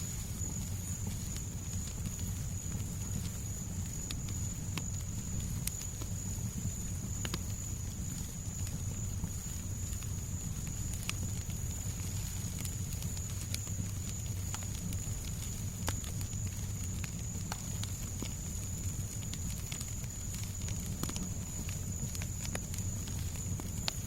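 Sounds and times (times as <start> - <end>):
fire crackling pops and snaps: 0.0 - 24.0.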